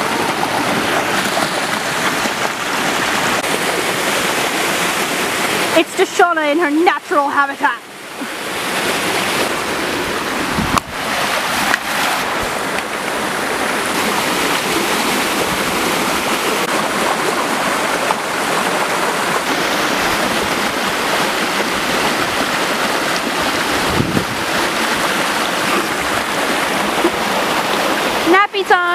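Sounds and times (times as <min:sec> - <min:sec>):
creek rushing over rocks: 0:00.0 - 0:28.9.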